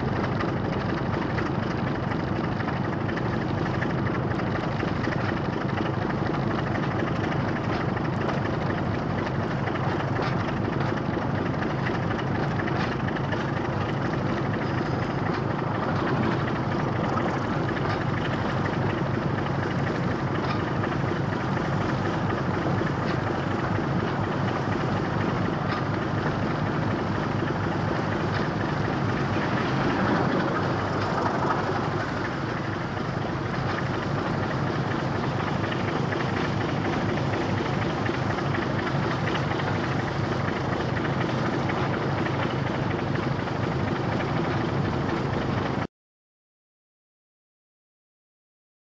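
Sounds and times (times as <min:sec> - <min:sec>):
diesel locomotive engines droning: 0:00.0 - 0:45.9.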